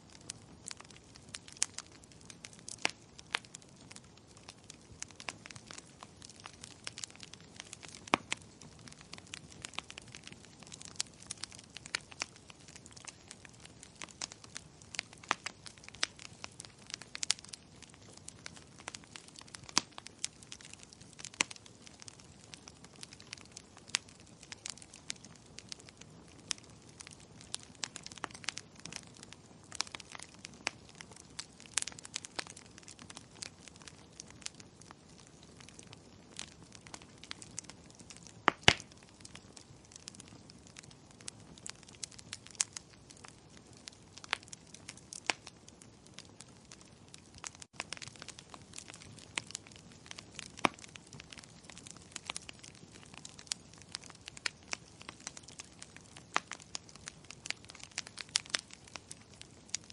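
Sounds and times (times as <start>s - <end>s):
faint hiss of flames: 0.0s - 59.9s
fireplace fire crackling: 0.0s - 59.9s.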